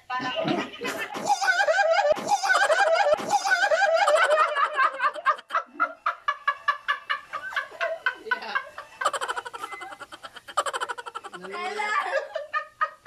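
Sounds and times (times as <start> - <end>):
people laughing hard: 0.4 - 13.0.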